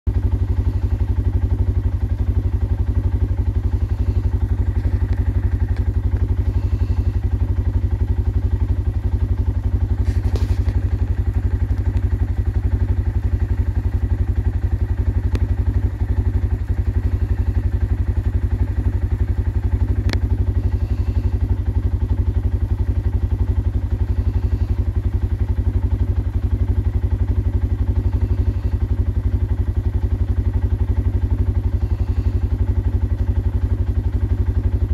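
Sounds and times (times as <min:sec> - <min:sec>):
atv engine idling: 0:00.1 - 0:34.9.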